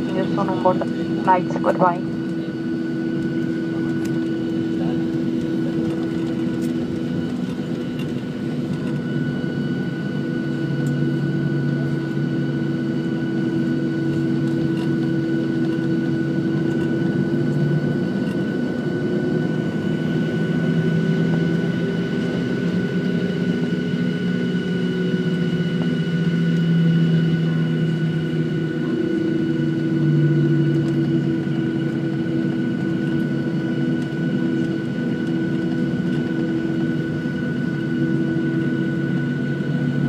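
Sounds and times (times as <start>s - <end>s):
jet engine hum with whining tones: 0.0s - 40.0s.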